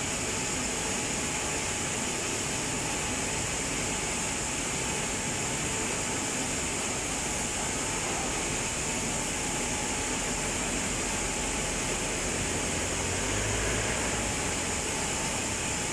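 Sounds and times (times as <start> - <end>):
machinery hiss and roar: 0.0 - 15.9.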